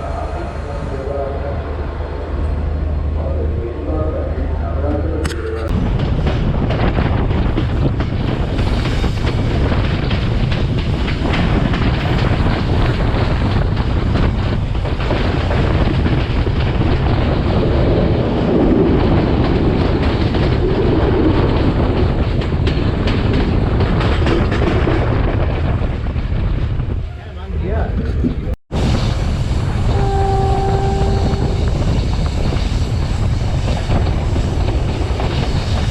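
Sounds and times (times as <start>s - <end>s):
train running noise: 0.0s - 35.9s
wind on microphone: 5.2s - 35.9s.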